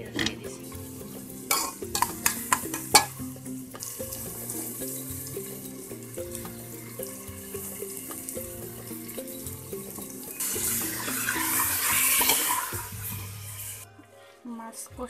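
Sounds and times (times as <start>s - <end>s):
stirring clicks against pot: 0.0s - 13.0s
onions sizzling in oil: 0.2s - 13.8s.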